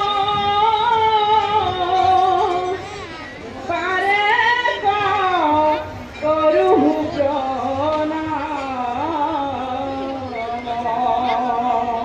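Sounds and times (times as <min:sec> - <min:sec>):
women singing devotional chant: 0:00.0 - 0:02.8, 0:03.6 - 0:12.0.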